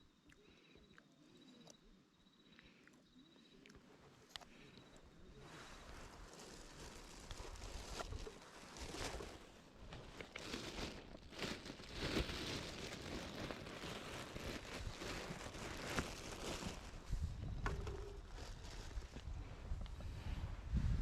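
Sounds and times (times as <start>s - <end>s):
rustling and crinkling: 4.2s - 21.0s.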